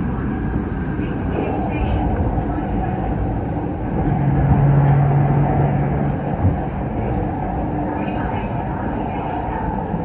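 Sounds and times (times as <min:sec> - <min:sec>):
low hum: 0:00.0 - 0:10.0
train low rumble: 0:00.0 - 0:10.0.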